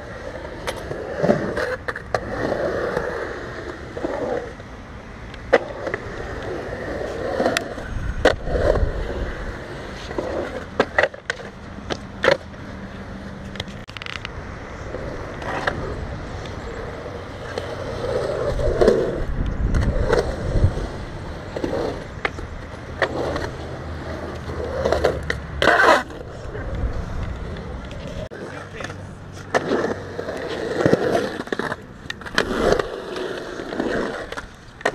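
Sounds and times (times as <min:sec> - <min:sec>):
skateboard wheels rolling on concrete: 0:00.0 - 0:34.9
skateboard clacking on concrete: 0:05.2 - 0:34.9.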